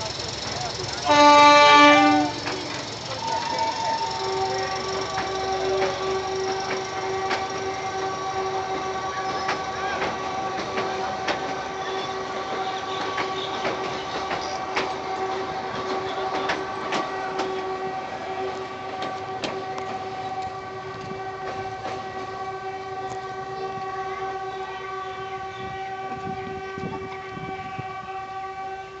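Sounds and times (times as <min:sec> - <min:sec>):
train wheels clicking over rail joints: 0:00.0 - 0:24.0
steady train horn: 0:00.9 - 0:29.0.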